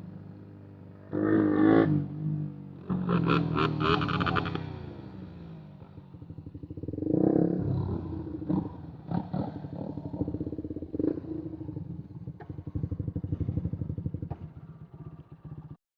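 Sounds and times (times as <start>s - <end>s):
motorcycle engine idling: 2.1s - 15.8s.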